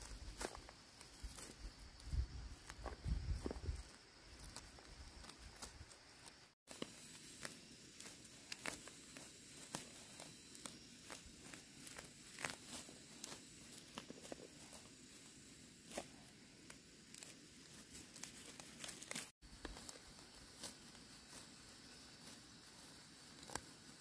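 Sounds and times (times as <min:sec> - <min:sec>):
leaves rustling: 0:00.0 - 0:24.0
weeds tearing from soil: 0:00.0 - 0:24.0.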